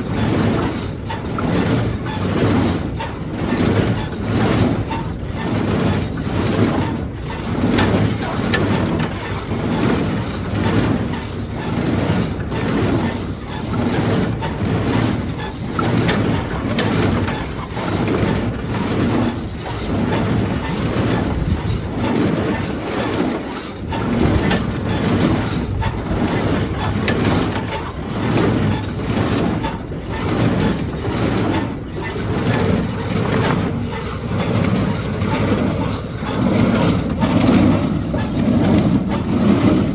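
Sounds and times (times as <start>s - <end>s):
engine running: 0.0s - 39.9s
hay baler mechanism cycling: 0.0s - 39.9s.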